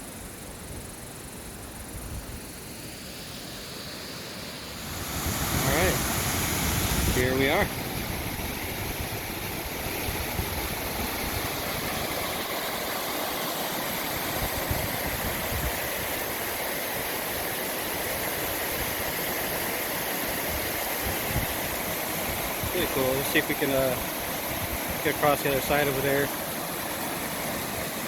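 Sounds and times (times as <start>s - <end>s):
waterfall rushing: 4.3s - 18.1s, 19.3s - 28.0s.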